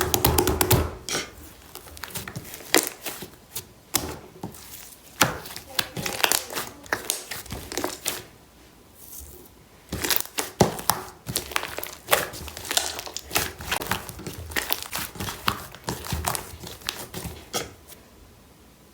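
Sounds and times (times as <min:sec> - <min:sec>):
slime squishing crackles: 0:00.0 - 0:08.4, 0:09.0 - 0:17.9.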